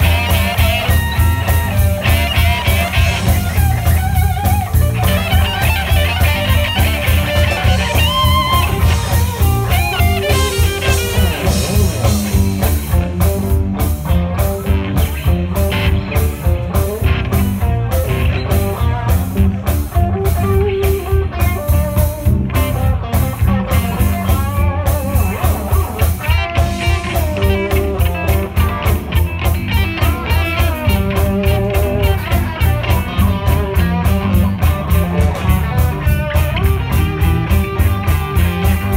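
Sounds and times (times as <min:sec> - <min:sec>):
bass guitar: 0:00.0 - 0:38.9
drum kit: 0:00.0 - 0:38.9
electric guitar lead: 0:00.0 - 0:38.9.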